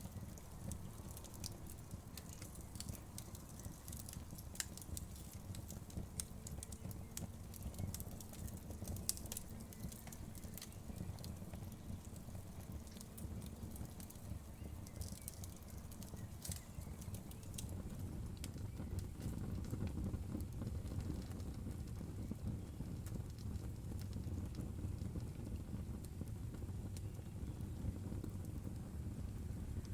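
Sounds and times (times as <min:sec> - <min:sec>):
fire crackling and popping: 0:00.0 - 0:29.9.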